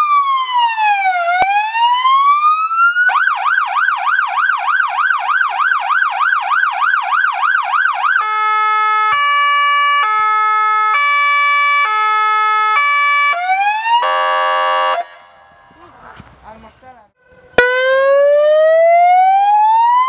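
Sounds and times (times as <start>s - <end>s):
fire engine electronic siren: 0.0s - 15.6s, 17.2s - 20.0s.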